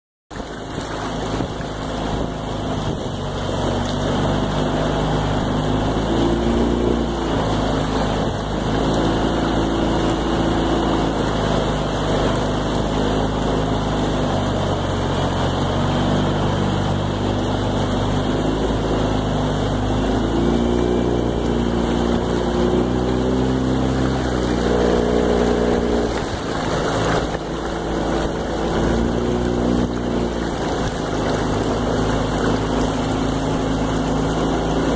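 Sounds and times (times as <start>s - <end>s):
outboard motor running: 0.3s - 34.9s.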